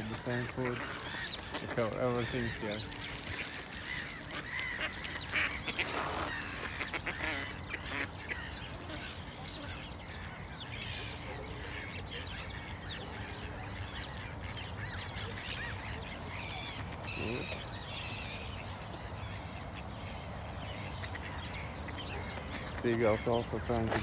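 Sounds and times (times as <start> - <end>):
birds squabbling: 0.0 - 24.0.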